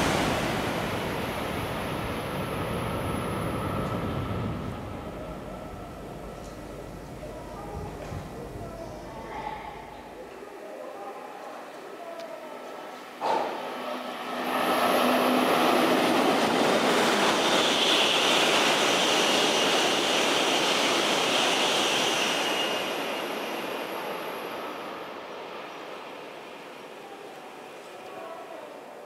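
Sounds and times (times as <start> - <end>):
train passing at speed: 0.0 - 11.1, 12.6 - 29.0.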